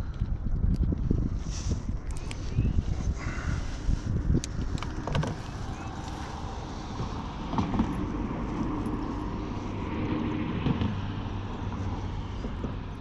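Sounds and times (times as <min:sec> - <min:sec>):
engine droning: 0:01.5 - 0:13.0.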